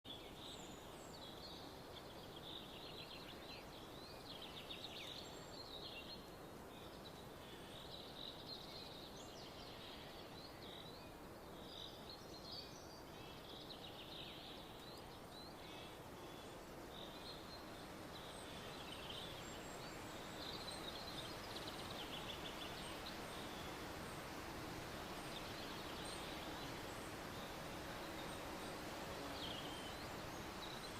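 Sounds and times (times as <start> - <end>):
faint outdoor hiss: 0.0 - 30.9
small birds chirping and trilling: 0.1 - 30.9.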